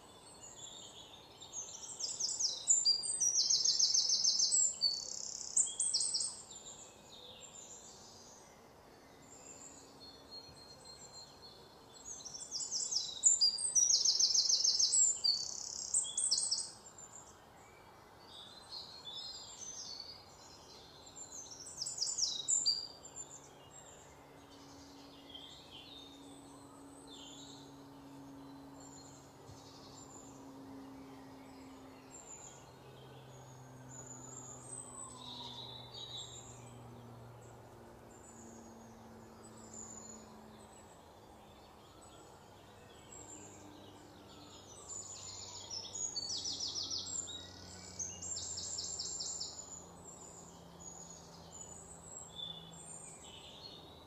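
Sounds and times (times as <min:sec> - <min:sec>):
faint low hum: 0:00.0 - 0:54.0
songbirds chirping: 0:00.0 - 0:54.0.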